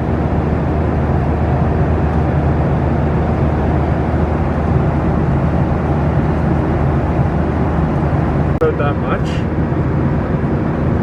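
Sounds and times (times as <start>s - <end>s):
airplane cabin engine noise: 0.0s - 11.0s.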